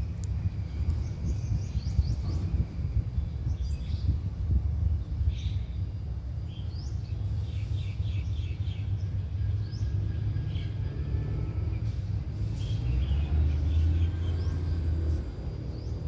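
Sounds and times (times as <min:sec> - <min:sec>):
low steady rumble: 0:00.0 - 0:16.0
birds chirping: 0:00.5 - 0:16.0.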